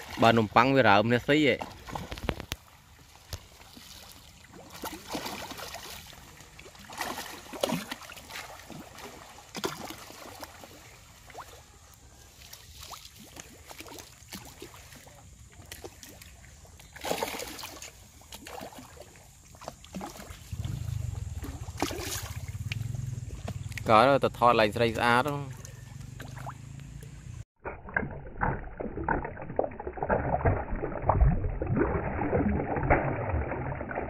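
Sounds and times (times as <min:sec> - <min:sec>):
fish splashing at water surface: 0:01.6 - 0:23.9, 0:25.3 - 0:26.8, 0:27.6 - 0:34.0.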